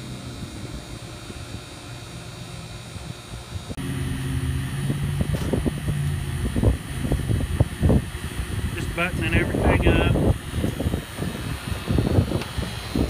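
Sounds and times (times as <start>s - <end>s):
vacuum pump humming: 0.0s - 13.0s.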